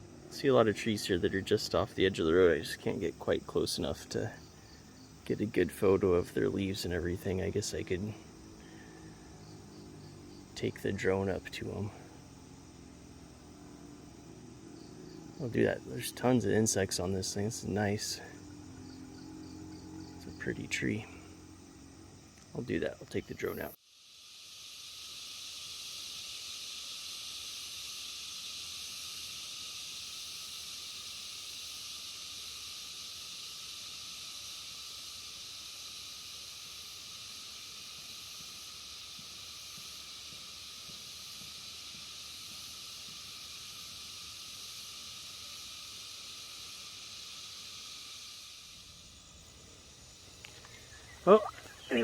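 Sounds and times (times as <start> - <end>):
insect chorus: 0.0 - 52.0.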